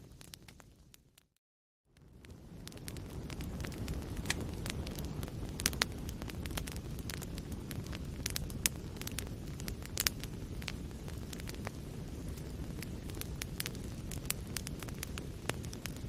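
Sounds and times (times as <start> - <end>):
low roar of fire flames: 0.0 - 1.3, 1.9 - 16.0
burning wood crackling and popping: 0.0 - 16.0.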